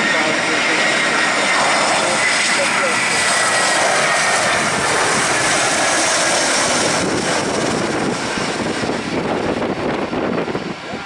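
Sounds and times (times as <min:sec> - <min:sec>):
jet airliner engines rushing: 0:00.0 - 0:11.0.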